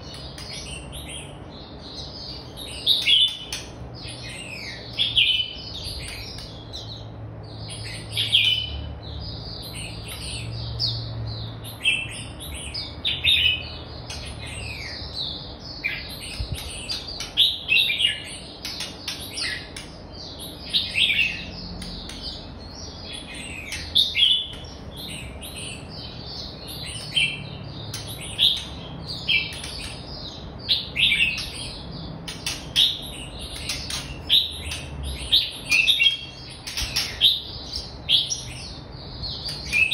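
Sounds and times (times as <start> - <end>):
bird singing chirpy phrases: 0.0 - 39.9.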